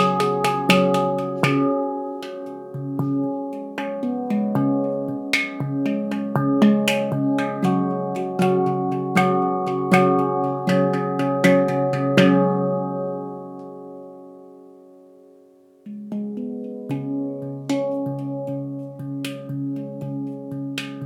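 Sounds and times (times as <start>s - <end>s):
handpan melody: 0.0s - 14.5s, 15.8s - 21.0s.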